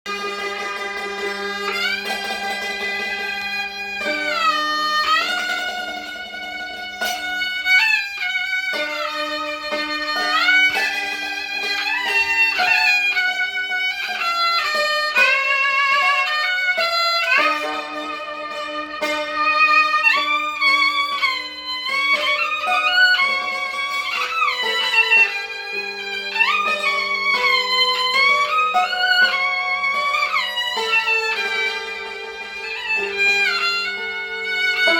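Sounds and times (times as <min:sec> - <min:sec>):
hammered dulcimer: 0:00.0 - 0:34.9
two-string fiddle melody: 0:00.0 - 0:34.9.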